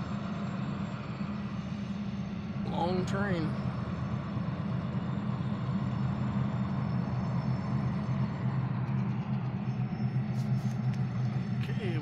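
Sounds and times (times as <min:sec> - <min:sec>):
diesel locomotive drone: 0:00.0 - 0:12.0.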